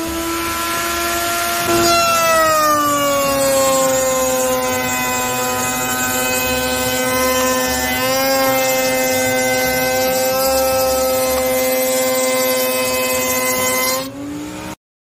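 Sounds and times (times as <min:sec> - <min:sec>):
router motor whine: 0:00.0 - 0:14.8.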